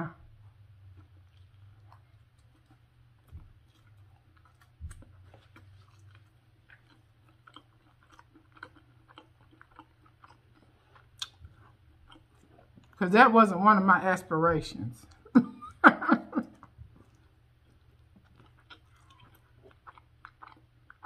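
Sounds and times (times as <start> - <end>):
faint chewing: 0.2 - 13.0, 15.0 - 21.0.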